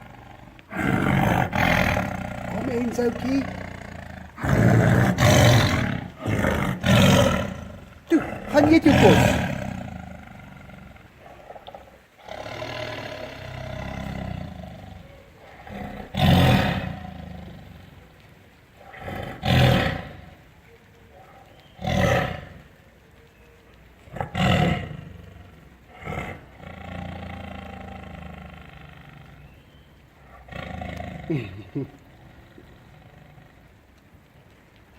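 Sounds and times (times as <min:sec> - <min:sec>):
tiger roaring: 0:00.0 - 0:34.1
tiger low calling: 0:00.0 - 0:34.2.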